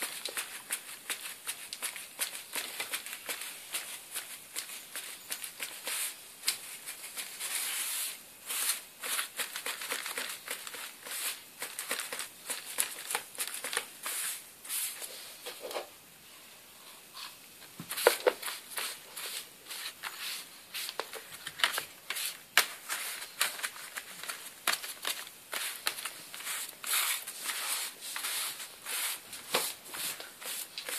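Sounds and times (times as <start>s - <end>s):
stiff paper rustling: 0.0s - 15.2s, 17.9s - 30.9s
paintbrush scraping paper: 0.0s - 15.4s, 17.2s - 30.9s.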